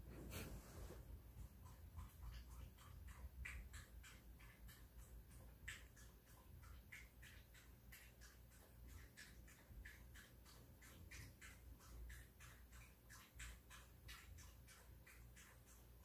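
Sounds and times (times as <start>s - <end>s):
dog mouth smacking while eating: 1.4s - 16.0s.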